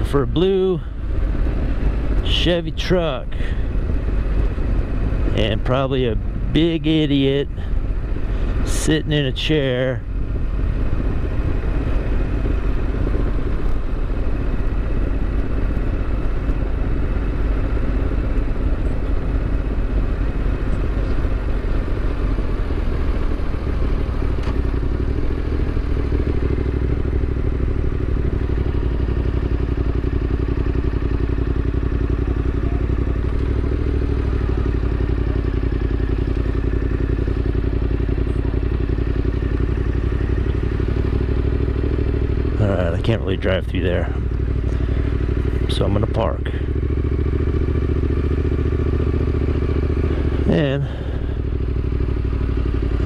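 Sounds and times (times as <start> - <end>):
motorcycle engine at low speed: 0.0 - 53.0.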